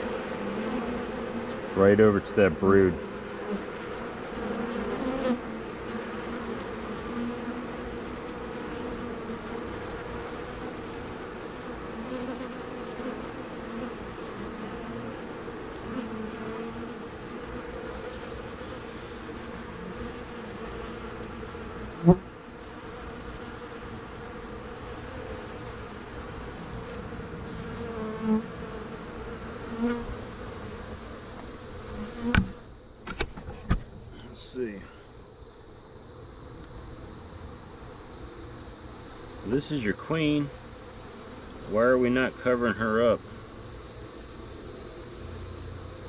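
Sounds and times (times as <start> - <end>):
bees buzzing: 0.0 - 46.0.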